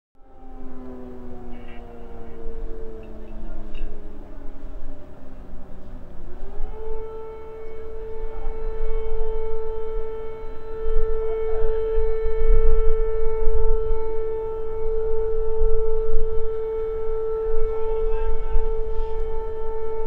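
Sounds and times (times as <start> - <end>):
air raid siren wailing: 0.2 - 20.0.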